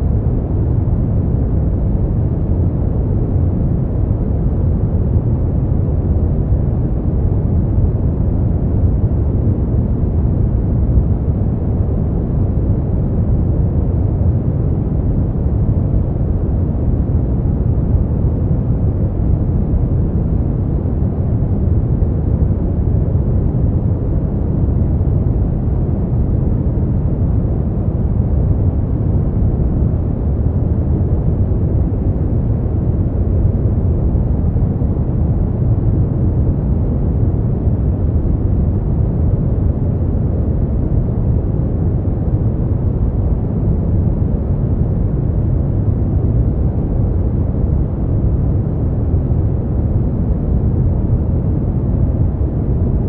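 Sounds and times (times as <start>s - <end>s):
deep steady brown noise: 0.0s - 53.0s.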